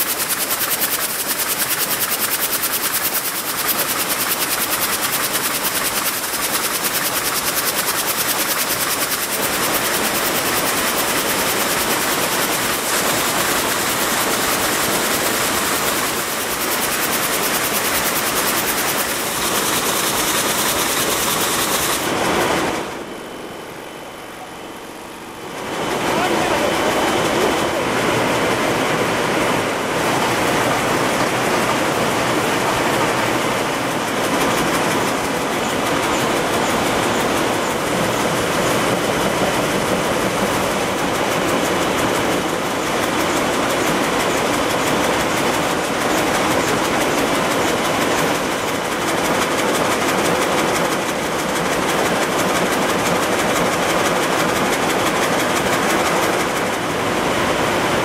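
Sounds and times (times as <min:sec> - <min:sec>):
machinery rattling: 0:00.0 - 0:23.1, 0:25.4 - 0:58.0.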